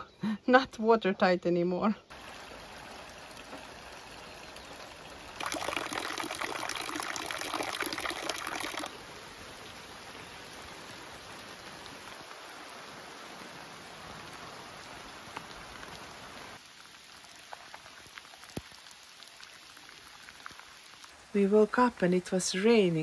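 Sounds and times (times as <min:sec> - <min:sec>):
heavy rain falling: 0:02.1 - 0:21.8
rain drops ticking: 0:02.1 - 0:23.0.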